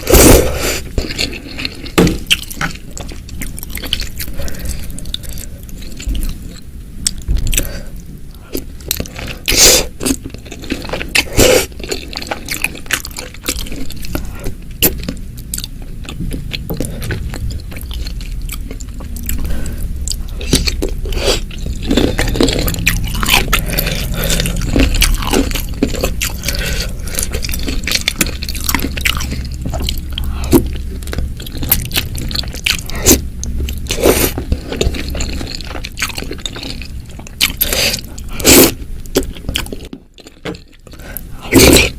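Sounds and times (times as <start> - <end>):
person chewing and crunching: 0.0 - 41.9.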